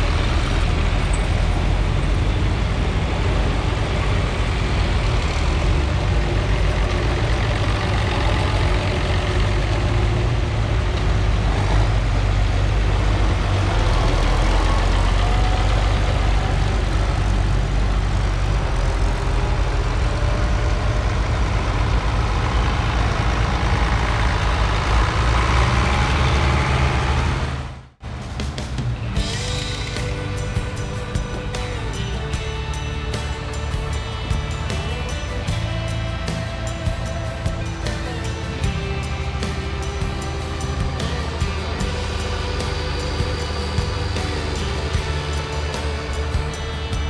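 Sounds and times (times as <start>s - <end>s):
heavy vehicle engines humming: 0.0s - 47.0s
road noise: 0.0s - 47.0s.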